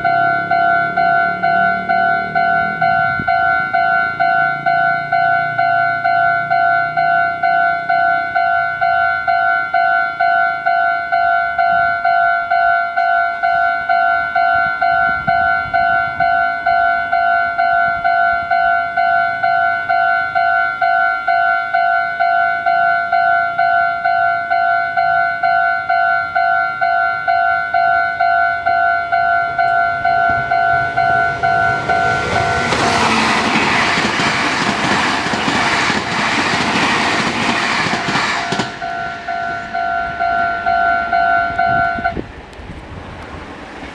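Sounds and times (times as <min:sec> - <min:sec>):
level crossing warning bell: 0:00.0 - 0:42.4
train wheel and rail noise: 0:00.0 - 0:43.9.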